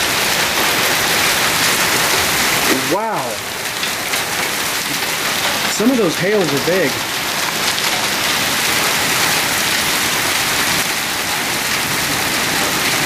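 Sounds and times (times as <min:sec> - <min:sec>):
hail falling: 0:00.0 - 0:13.0
torrential rain pouring: 0:00.0 - 0:13.0.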